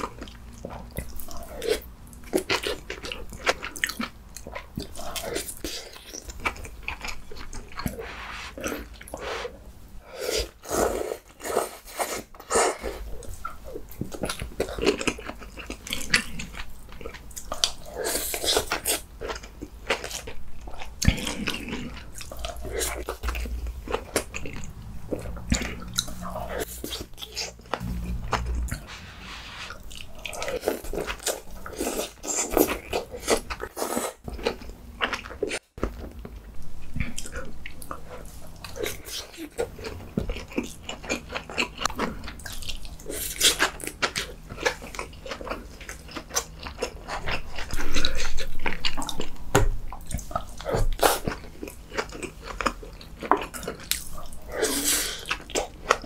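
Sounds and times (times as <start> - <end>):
man chewing and biting food: 0.0 - 9.6, 10.2 - 28.8, 29.7 - 56.0.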